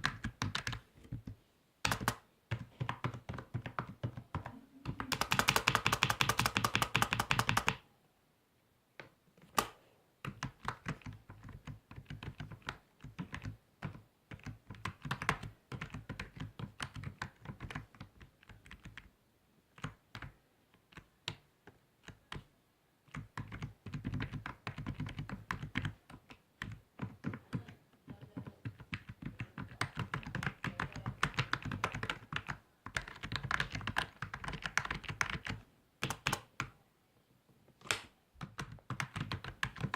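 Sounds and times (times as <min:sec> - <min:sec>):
typing on computer keyboard: 0:00.0 - 0:07.8, 0:09.5 - 0:19.1, 0:19.7 - 0:36.7, 0:38.4 - 0:39.9.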